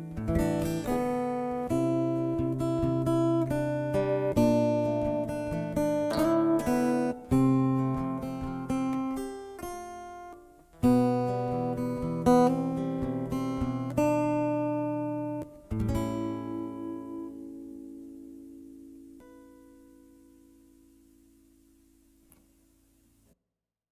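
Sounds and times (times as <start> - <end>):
acoustic guitar playing: 0.0 - 22.4.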